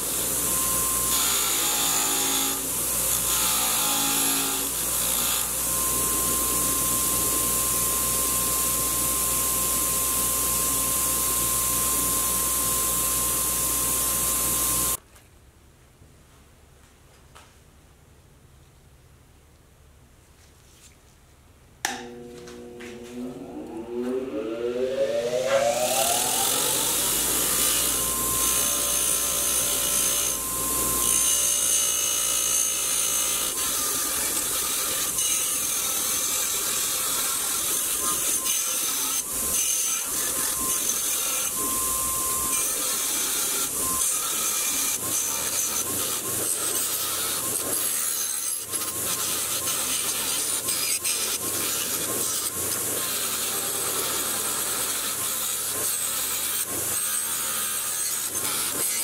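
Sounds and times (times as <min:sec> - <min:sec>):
power tool running: 0:00.0 - 0:15.0, 0:21.8 - 0:59.0.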